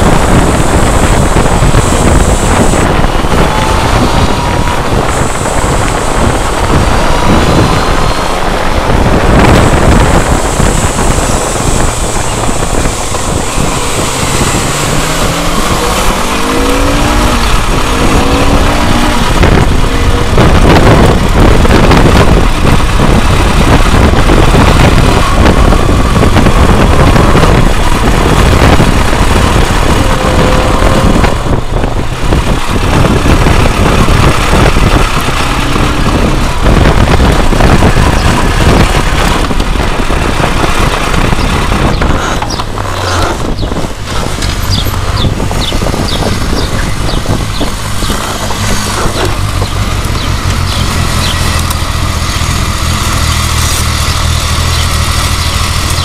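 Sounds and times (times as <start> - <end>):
motorcycle engine running: 0.0 - 56.0
wind rush over microphone: 0.0 - 56.0.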